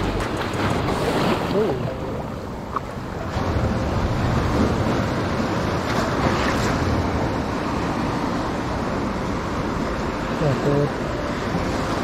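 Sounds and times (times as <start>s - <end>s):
ocean surf around rocks: 0.0s - 12.0s.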